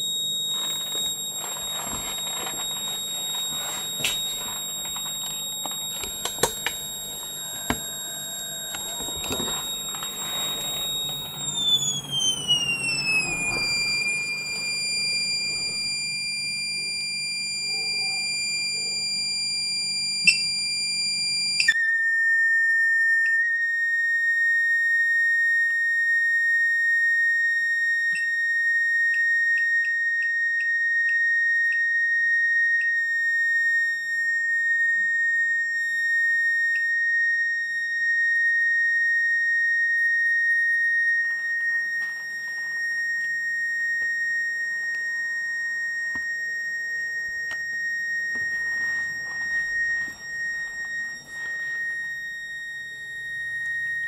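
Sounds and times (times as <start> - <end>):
motor circuit high-pitched whine: 0.0 - 54.0.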